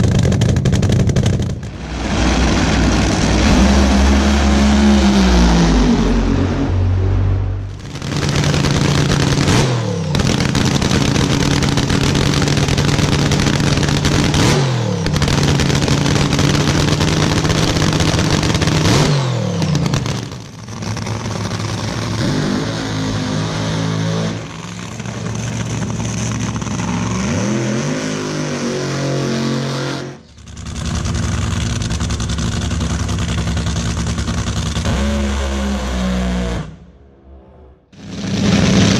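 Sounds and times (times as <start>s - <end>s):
drag racing engines cackling: 0.0s - 37.0s, 38.0s - 38.9s.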